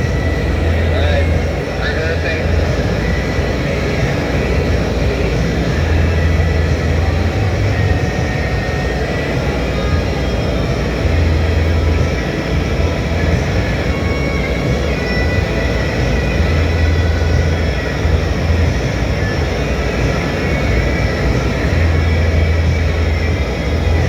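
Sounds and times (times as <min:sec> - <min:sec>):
furnace mechanical roar: 0:00.0 - 0:24.0
low hum: 0:00.0 - 0:24.0.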